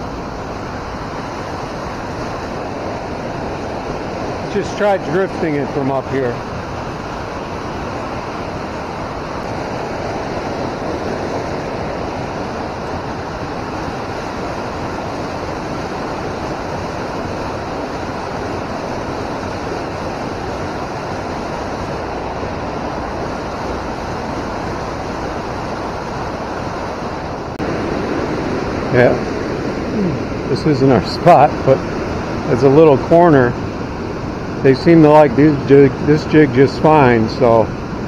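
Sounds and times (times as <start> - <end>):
flowing river water: 0.0 - 38.0.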